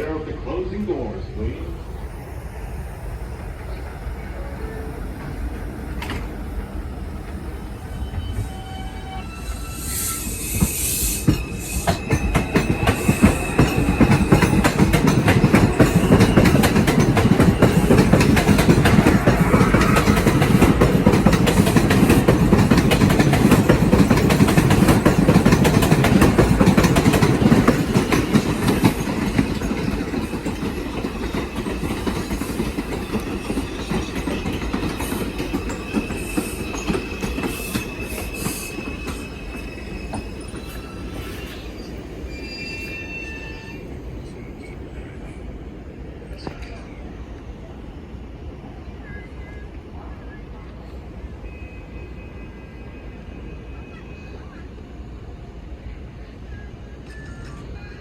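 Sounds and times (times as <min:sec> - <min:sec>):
subway train wheels clattering: 0:00.0 - 0:58.0.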